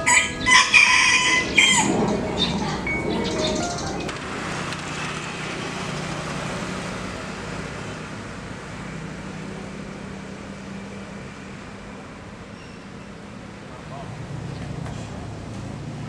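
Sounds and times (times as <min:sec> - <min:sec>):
motor scooters passing: 0:00.0 - 0:16.0.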